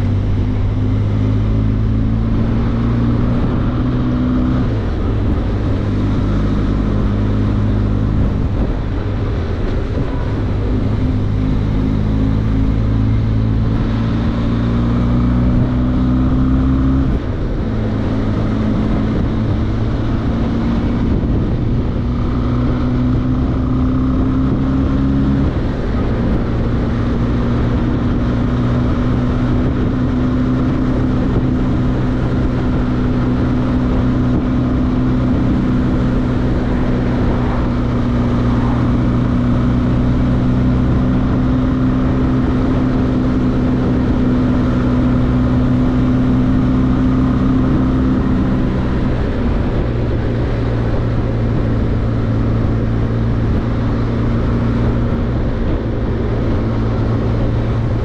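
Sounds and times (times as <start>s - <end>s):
motorcycle engine running: 0.0s - 58.0s
wind on microphone: 0.0s - 58.0s.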